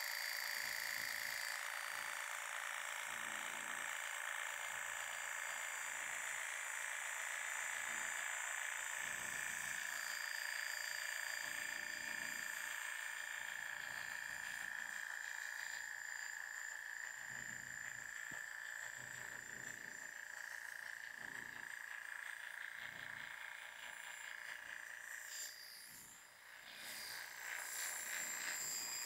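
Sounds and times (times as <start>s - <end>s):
electric hair clippers buzzing: 0.0s - 29.0s.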